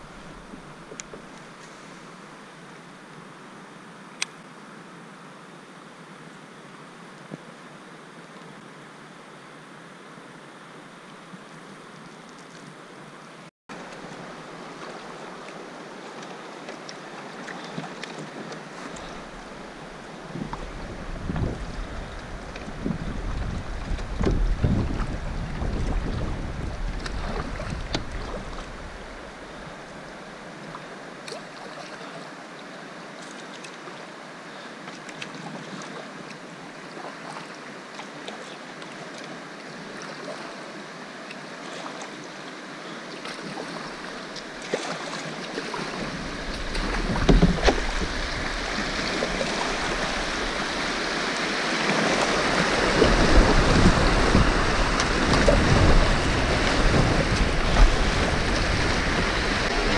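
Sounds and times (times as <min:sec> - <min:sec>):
river water rushing: 0:00.0 - 0:11.8, 0:12.9 - 0:59.9.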